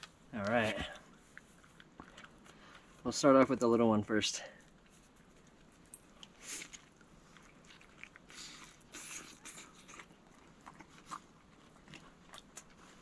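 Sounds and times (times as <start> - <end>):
chewing: 0.4 - 3.0, 4.6 - 13.0.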